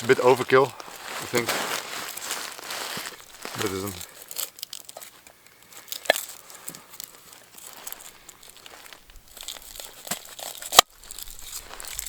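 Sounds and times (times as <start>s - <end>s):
onion layers crackling: 0.0s - 12.0s.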